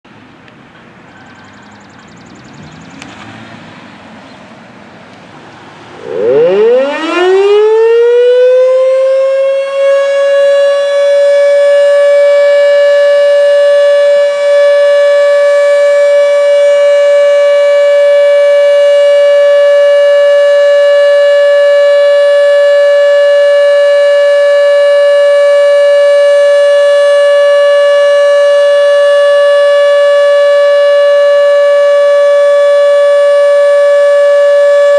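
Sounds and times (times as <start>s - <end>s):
outdoor warning siren: 1.0s - 3.9s, 5.6s - 34.9s.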